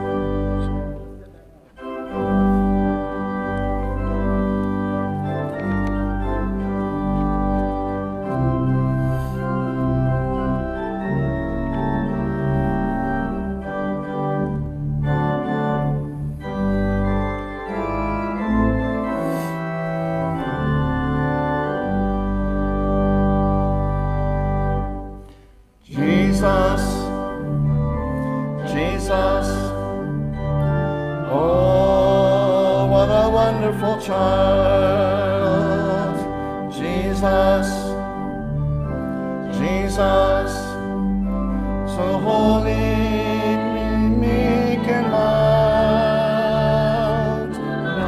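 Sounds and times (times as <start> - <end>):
church organ playing hymn: 0.0 - 48.0.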